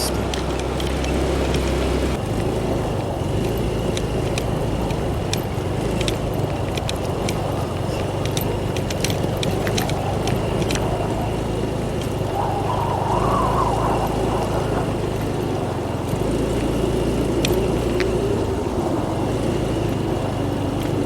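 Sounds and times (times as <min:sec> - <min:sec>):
motorcycle engine running: 0:00.0 - 0:21.0
sharp clicks and rattles: 0:00.0 - 0:21.0.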